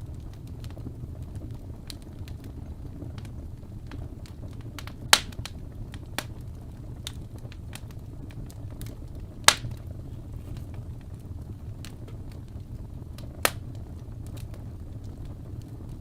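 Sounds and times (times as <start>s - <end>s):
loud pops from fire: 0.0s - 16.0s
wood fire crackling: 0.0s - 16.0s.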